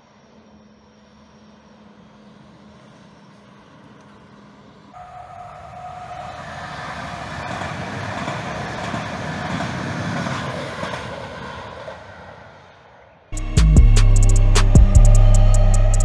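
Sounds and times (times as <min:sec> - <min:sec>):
train wheels rumbling on rails: 0:01.3 - 0:16.0.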